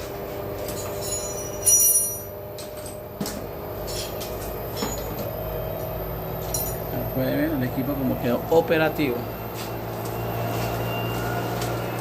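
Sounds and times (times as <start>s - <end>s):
washing machine drum spinning: 0.0s - 12.0s.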